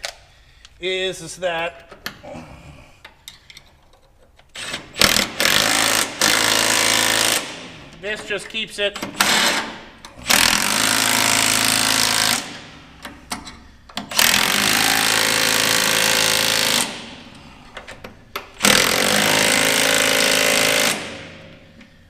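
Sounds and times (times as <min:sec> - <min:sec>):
impact wrench hammering bolts: 0:03.2 - 0:21.9.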